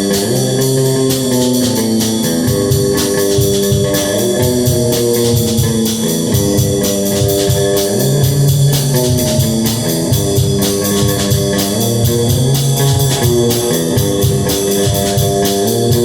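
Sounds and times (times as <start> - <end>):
drum kit cymbal beat: 0.0 - 16.0
electric guitar chords: 0.0 - 16.0.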